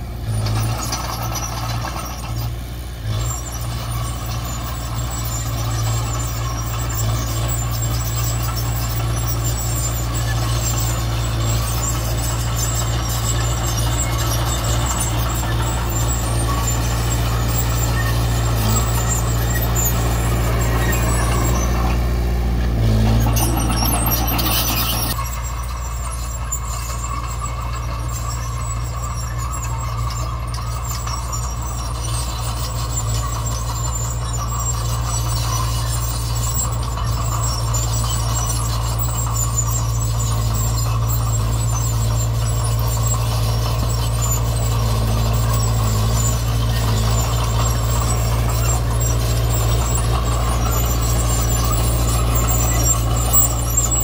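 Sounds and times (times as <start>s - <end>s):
diesel machinery engine hum: 0.0s - 54.0s.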